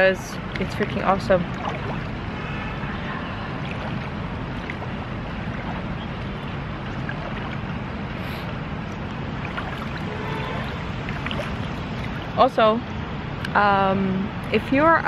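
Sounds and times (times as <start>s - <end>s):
river water flowing over rocks: 0.0s - 13.8s.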